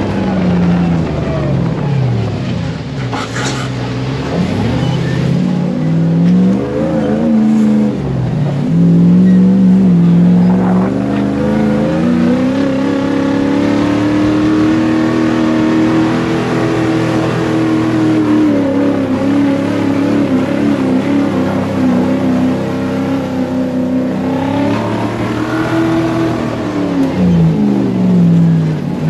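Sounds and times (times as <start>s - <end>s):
buggy engine revving: 0.0s - 29.0s.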